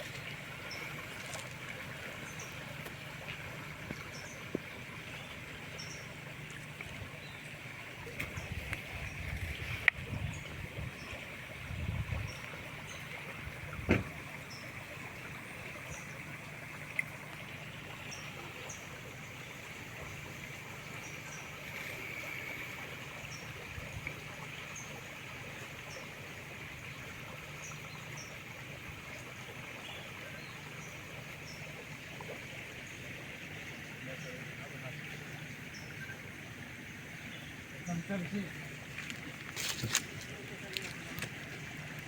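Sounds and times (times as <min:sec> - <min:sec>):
river water flowing: 0:00.0 - 0:42.0.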